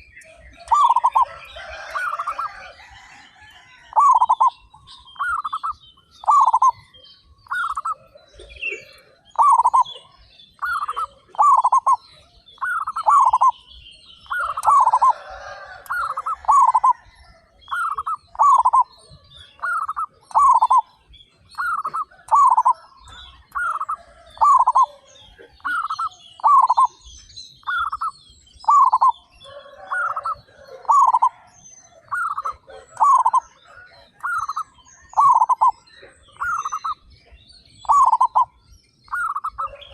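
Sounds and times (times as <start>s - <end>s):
doves cooing: 0.0s - 27.0s, 27.6s - 39.9s
small birds chirping: 0.0s - 39.9s.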